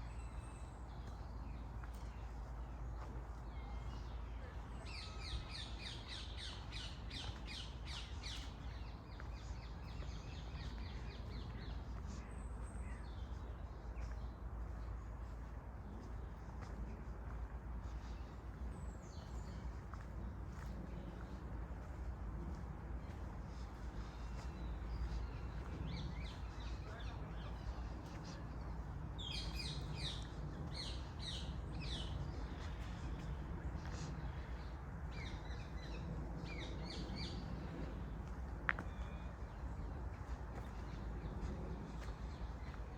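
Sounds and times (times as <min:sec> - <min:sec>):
steady low rumble: 0:00.0 - 0:42.9.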